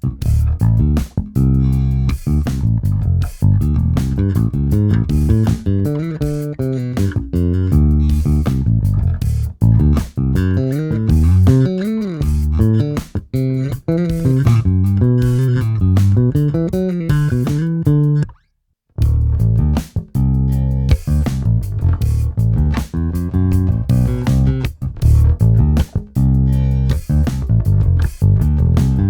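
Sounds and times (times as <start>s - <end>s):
electric bass plucked notes: 0.0s - 18.4s, 19.0s - 29.0s.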